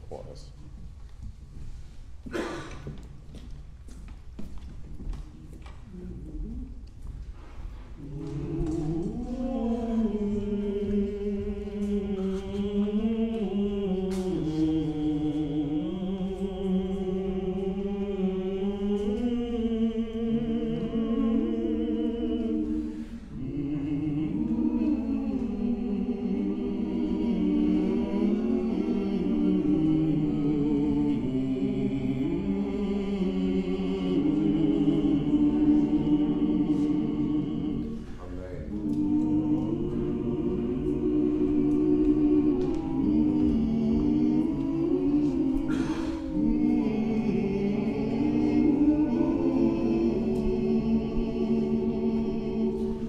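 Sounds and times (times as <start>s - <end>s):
choir singing unaccompanied: 7.4s - 53.0s.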